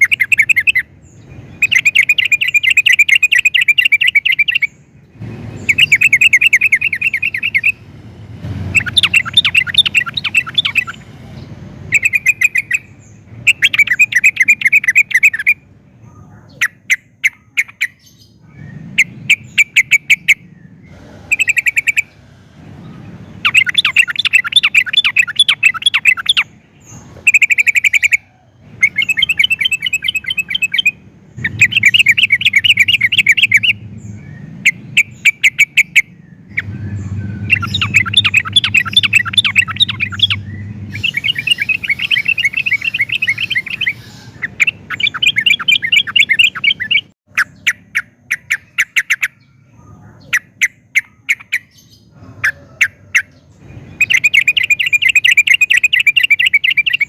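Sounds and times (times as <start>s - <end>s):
bird singing trilled phrases: 0.0s - 57.0s.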